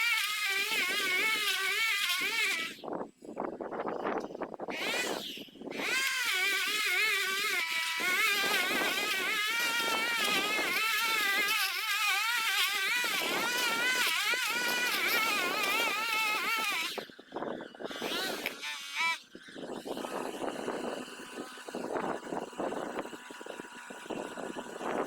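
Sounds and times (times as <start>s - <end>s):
small petrol engine whining: 0.0s - 2.8s, 4.2s - 25.0s.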